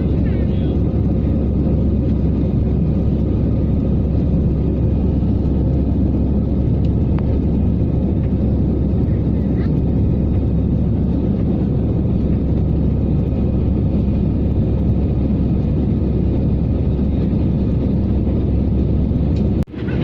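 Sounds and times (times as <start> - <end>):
jet engines and airflow rumble: 0.0 - 20.0.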